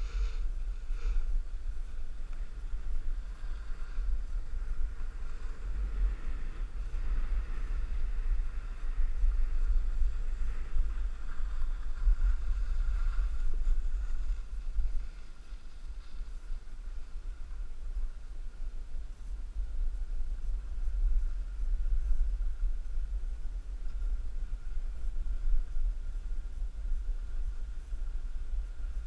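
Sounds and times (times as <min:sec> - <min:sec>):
sliding over packed snow: 0:00.0 - 0:29.0
wind buffeting microphone: 0:00.0 - 0:29.0.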